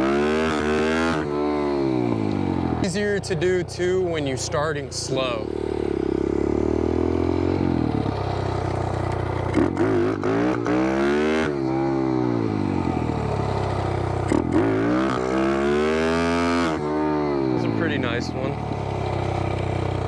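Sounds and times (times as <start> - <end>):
small motorbike engine revving: 0.0 - 4.0, 5.4 - 20.0.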